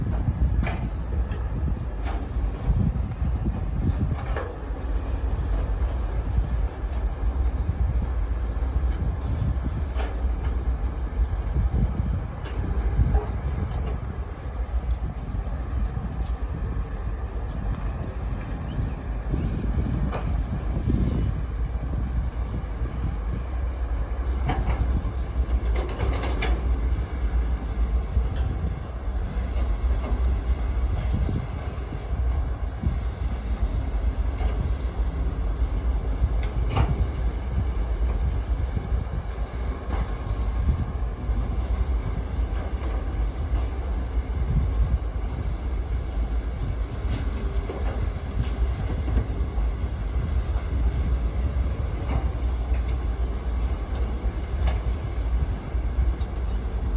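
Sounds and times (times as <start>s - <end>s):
heavy machinery engine rumble: 0.0s - 56.9s.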